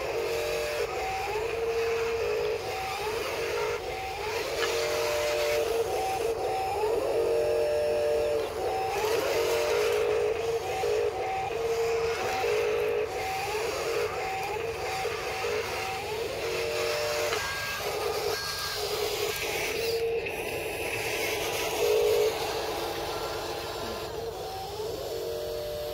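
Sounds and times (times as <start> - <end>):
electric motors whining: 0.0 - 25.9.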